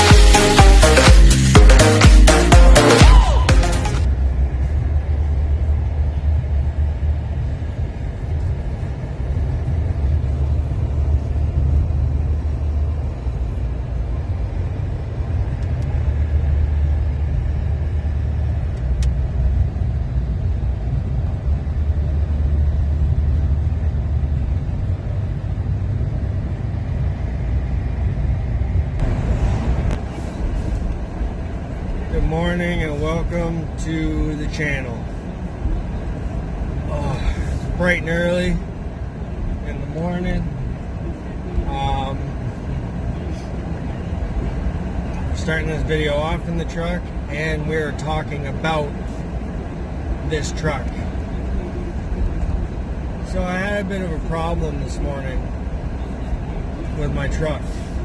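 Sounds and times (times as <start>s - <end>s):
engine rumble in cabin: 0.0s - 58.0s
road noise: 0.0s - 58.0s.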